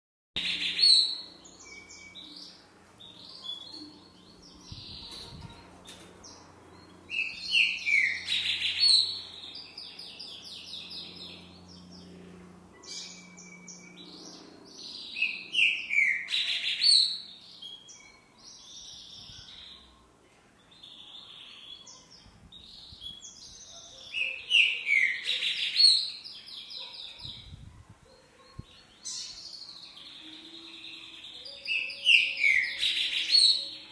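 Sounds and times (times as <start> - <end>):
bird singing loud phrases: 0.4 - 12.2, 12.8 - 33.9.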